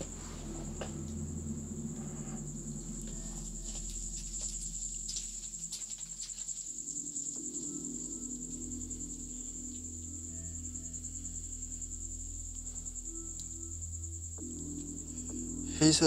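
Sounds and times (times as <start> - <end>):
crickets trilling: 0.0 - 16.0
low droning music: 0.0 - 16.0.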